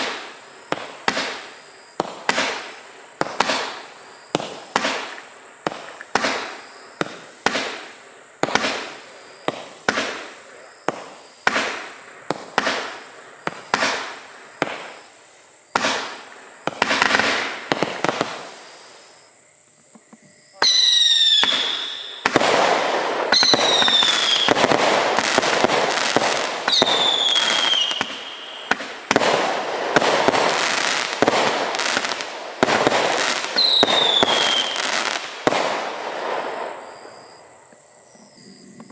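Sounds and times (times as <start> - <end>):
firework shots crackling: 0.0 - 15.1, 15.7 - 19.1, 20.6 - 37.2
firework whistles: 0.0 - 19.3, 20.3 - 37.4.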